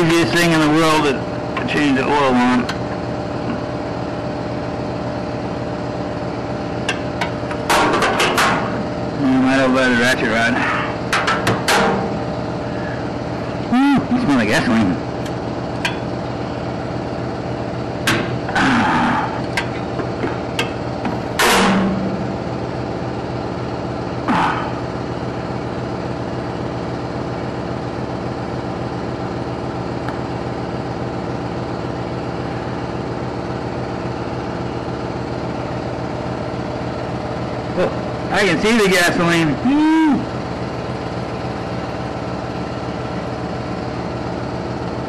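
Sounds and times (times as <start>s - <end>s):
steady machine hum: 0.0s - 45.0s.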